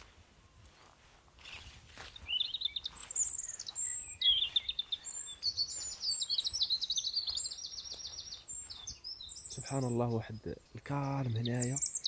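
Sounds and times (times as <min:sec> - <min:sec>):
songbird trilling and chirping: 0:01.4 - 0:12.0.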